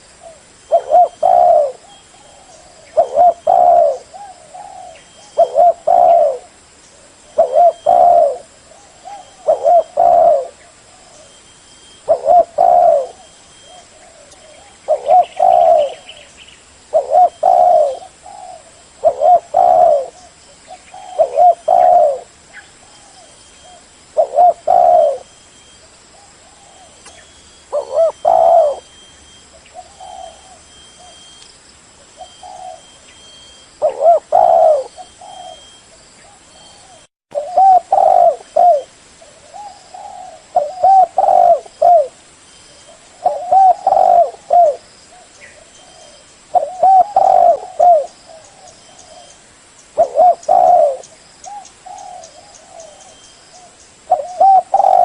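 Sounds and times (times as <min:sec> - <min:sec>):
dove cooing: 0:00.0 - 0:16.3, 0:16.9 - 0:31.4, 0:32.1 - 0:42.2, 0:42.8 - 0:49.4, 0:50.0 - 0:55.0.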